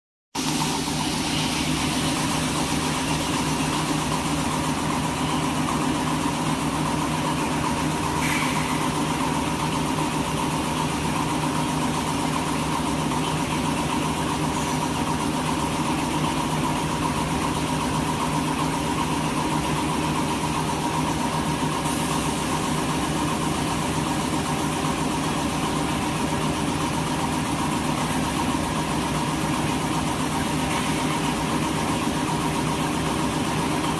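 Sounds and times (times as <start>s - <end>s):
machine hum with held tones: 0.4s - 33.9s.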